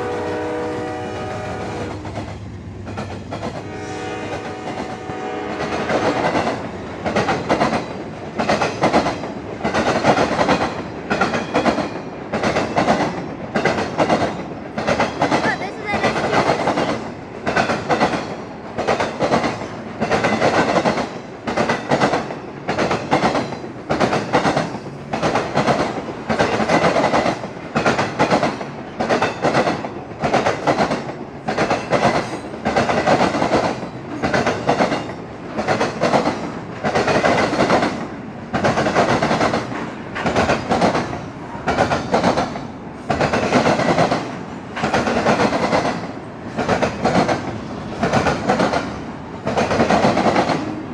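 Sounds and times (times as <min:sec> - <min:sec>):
train wheels clacking on rail joints: 0:00.0 - 0:50.9.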